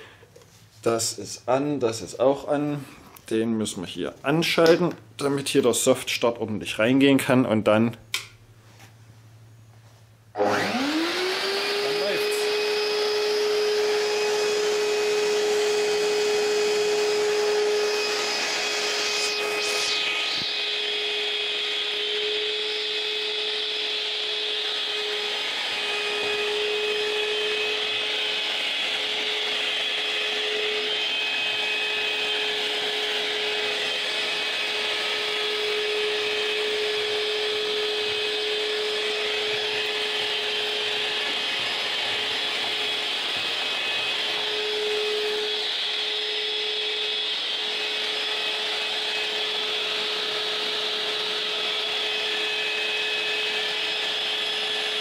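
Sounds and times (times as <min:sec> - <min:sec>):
vacuum cleaner running: 0:10.3 - 0:55.0.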